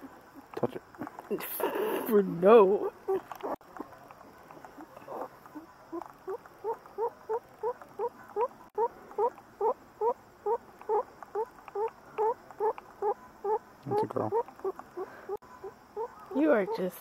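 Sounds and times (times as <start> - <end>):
rabbit squeaking: 1.4 - 3.9, 4.7 - 17.0.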